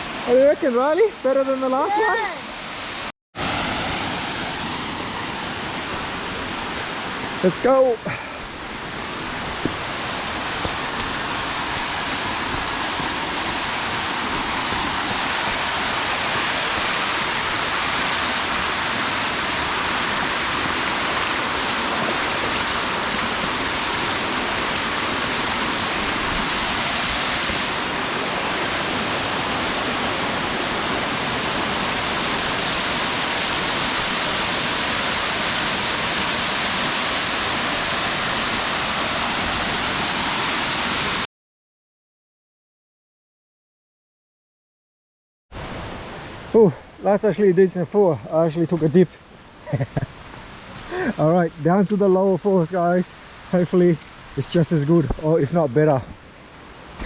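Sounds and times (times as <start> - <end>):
waterfall rushing: 0.0 - 41.3, 45.6 - 57.0.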